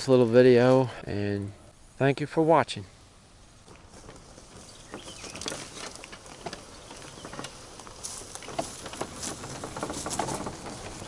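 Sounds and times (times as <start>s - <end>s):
tyres crackling through dry grass: 2.0s - 11.0s.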